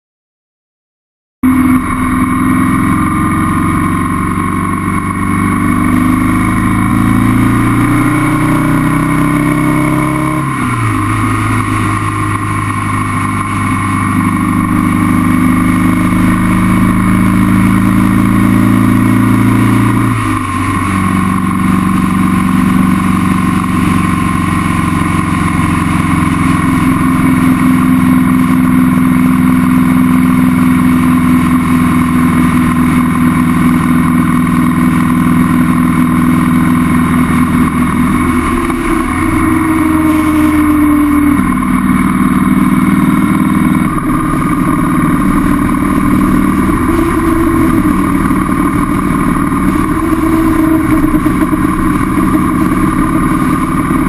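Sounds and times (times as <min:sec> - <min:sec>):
motorcycle engine running: 0:01.4 - 0:54.0.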